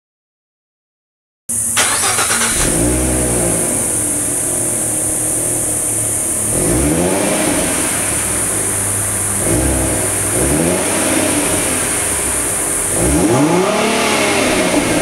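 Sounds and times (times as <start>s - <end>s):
car engine idling and revving: 1.5s - 15.0s.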